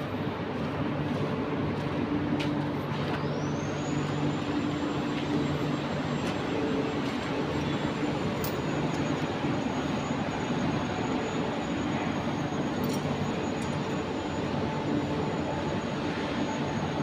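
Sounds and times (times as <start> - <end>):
furnace rushing roar: 0.0 - 17.0
low electrical hum: 0.0 - 17.0
thin high whine: 2.8 - 17.0.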